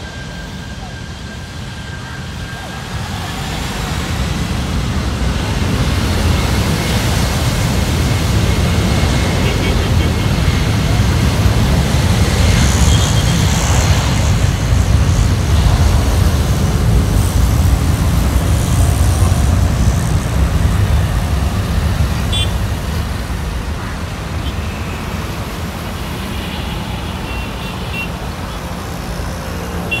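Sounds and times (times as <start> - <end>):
distant jet engines roaring: 0.0 - 30.0
road traffic rumble: 0.0 - 30.0.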